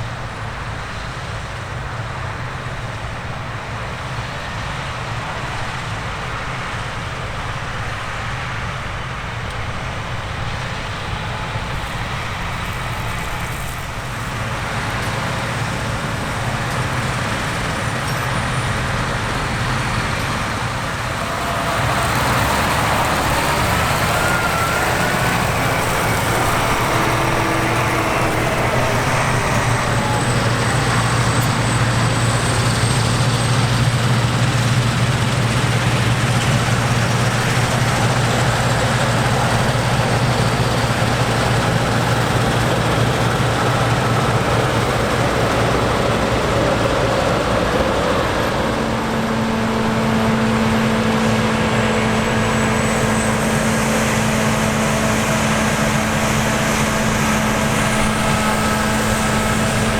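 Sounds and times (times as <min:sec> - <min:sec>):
diesel harvest machinery running: 0:00.0 - 0:59.9.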